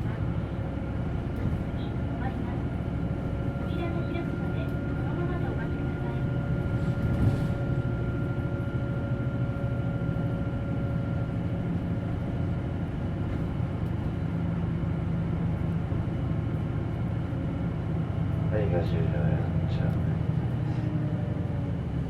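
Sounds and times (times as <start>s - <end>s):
bus drivetrain hum: 0.0s - 22.0s.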